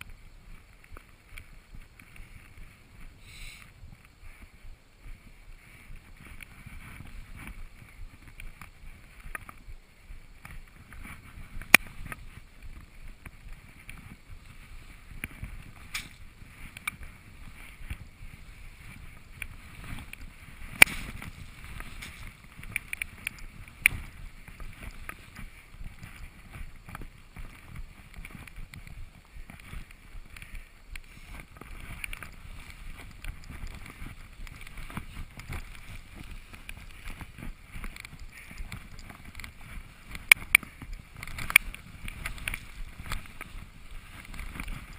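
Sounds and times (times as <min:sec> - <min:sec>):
skis swishing through snow: 0:00.0 - 0:44.9
wind noise on microphone: 0:00.0 - 0:44.9.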